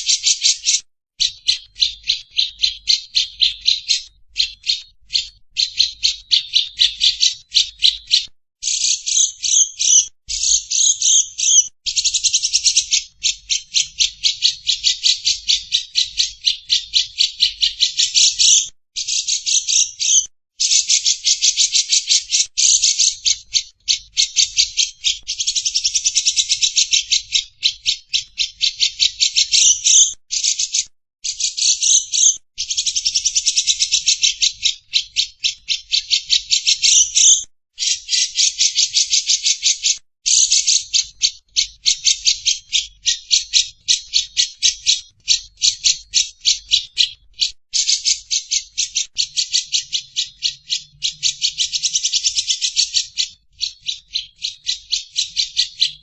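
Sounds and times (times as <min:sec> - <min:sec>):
bird chattering: 0:00.0 - 0:56.0.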